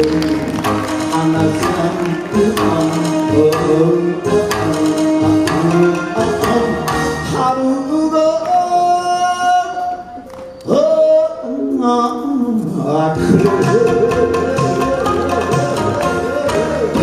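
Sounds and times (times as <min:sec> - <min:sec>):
man singing long notes: 0:01.0 - 0:17.0.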